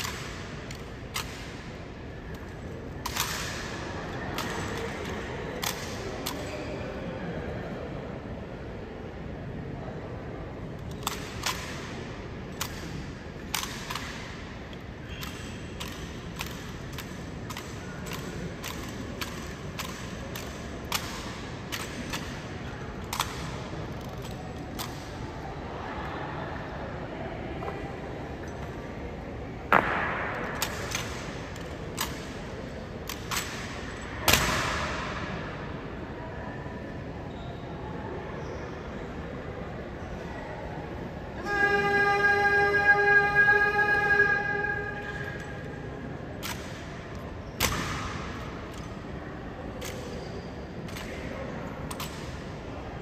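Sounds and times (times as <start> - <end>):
crowd background hum: 0.0 - 53.0.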